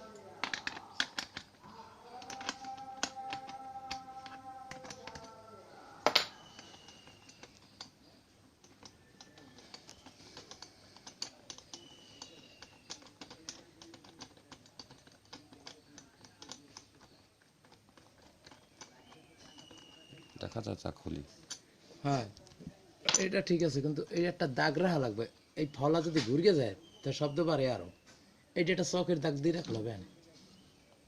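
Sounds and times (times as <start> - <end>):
hand tools clicking and tapping: 0.0 - 27.2.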